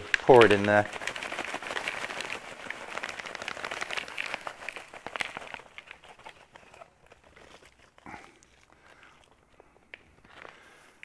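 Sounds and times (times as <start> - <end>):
compost pouring into bucket: 0.0 - 9.4
plastic bag crinkling: 0.0 - 11.0.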